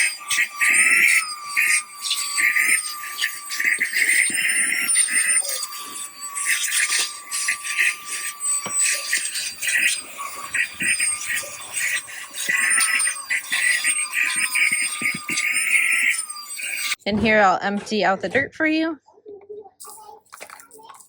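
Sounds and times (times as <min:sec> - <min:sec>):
grit rattling through nozzle: 0:00.0 - 0:17.0
handheld vacuum whine: 0:00.0 - 0:17.5.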